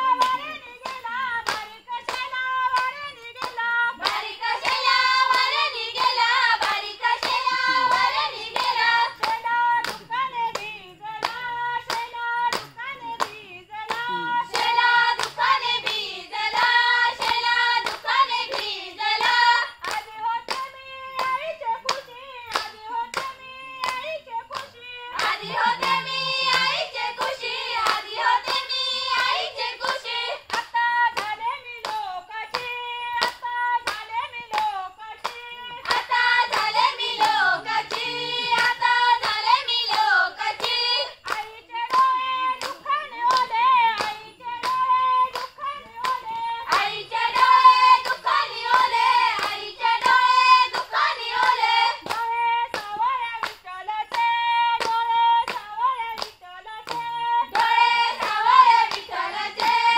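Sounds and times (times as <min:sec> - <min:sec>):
hand-clapping: 0:00.0 - 0:59.9
women singing in chorus: 0:00.0 - 0:59.9.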